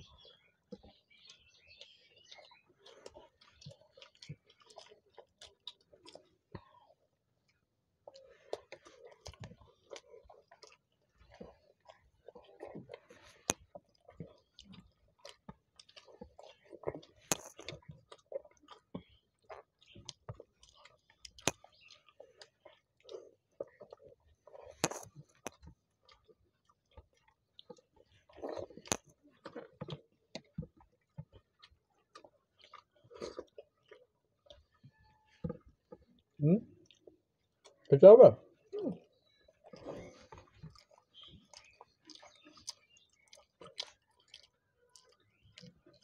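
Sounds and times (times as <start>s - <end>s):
wet chewing and smacking: 0.0s - 46.0s.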